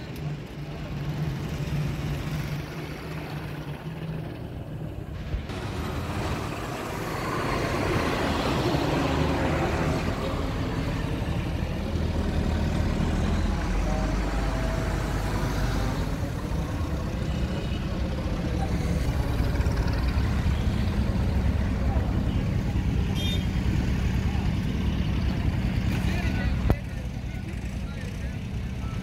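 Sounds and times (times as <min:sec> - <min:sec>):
truck engine humming: 0:00.0 - 0:29.0.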